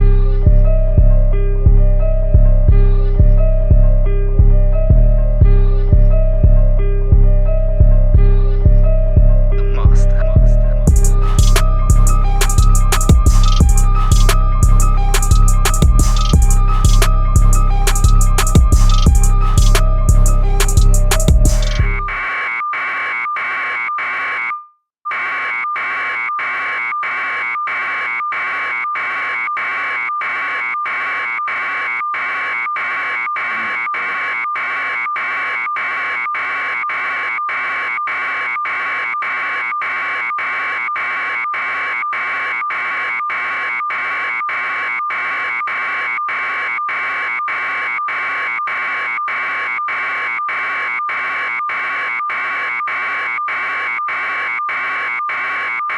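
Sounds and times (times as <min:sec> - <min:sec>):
electronic alarm buzzer beeping: 0:10.9 - 0:55.9.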